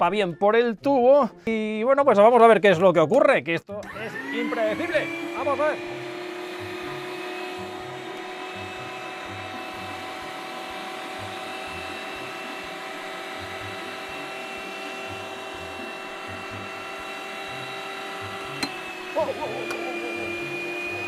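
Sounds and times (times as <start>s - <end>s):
meat grinder motor whine: 3.8s - 21.0s.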